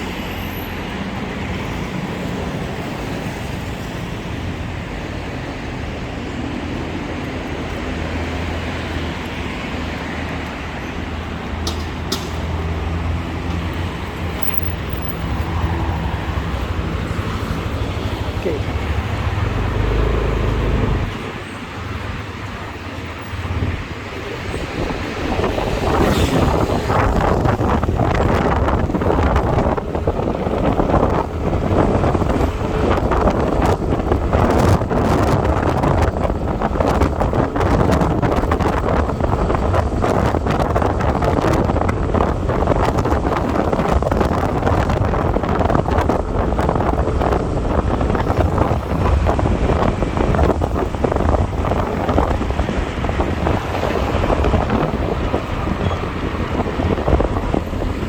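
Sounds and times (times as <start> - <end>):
road noise: 0.0 - 58.0
wind buffeting microphone: 0.8 - 58.0.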